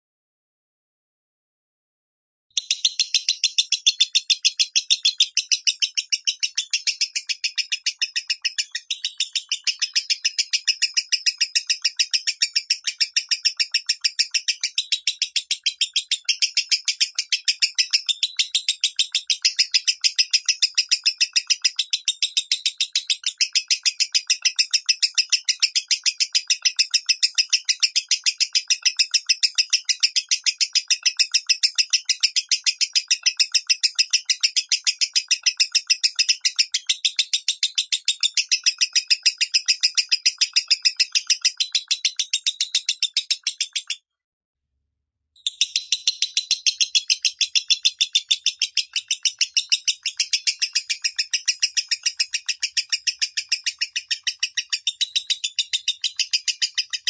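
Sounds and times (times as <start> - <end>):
lovebird rapid high chirping: 2.6 - 44.0, 45.4 - 57.0.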